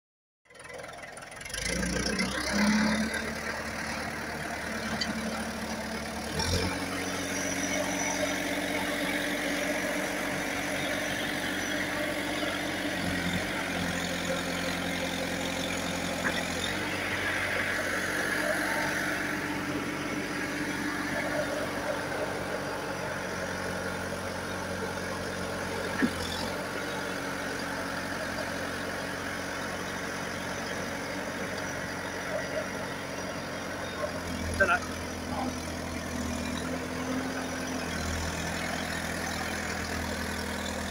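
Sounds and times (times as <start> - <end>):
diesel engine running: 0.5 - 40.9.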